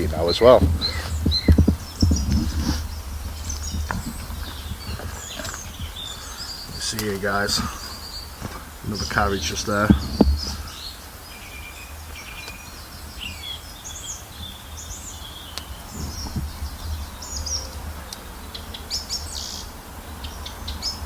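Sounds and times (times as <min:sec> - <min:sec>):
small birds chirping and trilling: 0:00.0 - 0:21.0.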